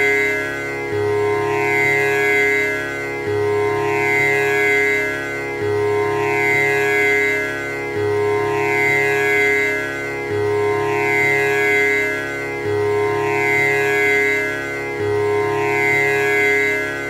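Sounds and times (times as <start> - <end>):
tanpura drone: 0.0 - 17.0.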